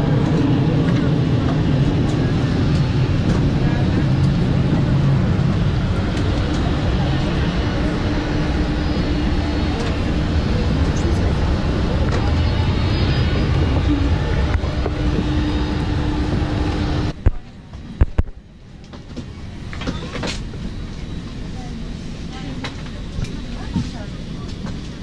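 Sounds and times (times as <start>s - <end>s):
jet aircraft roar: 0.0s - 25.0s.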